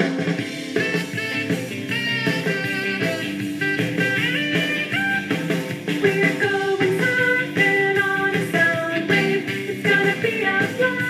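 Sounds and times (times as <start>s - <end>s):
surf rock song with guitar: 0.0s - 11.0s.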